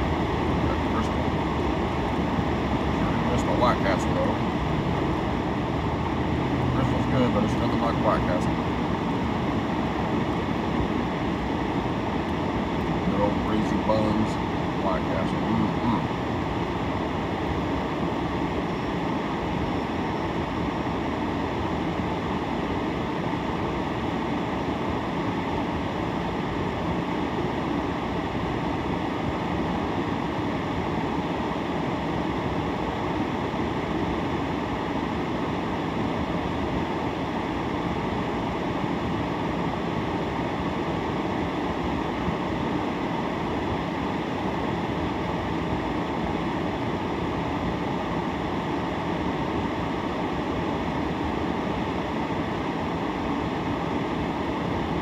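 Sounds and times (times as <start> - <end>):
rushing noise inside car: 0.0 - 55.0.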